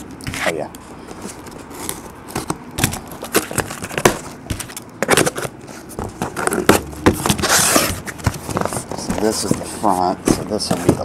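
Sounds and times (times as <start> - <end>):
cardboard crackling and scraping: 0.2 - 11.0.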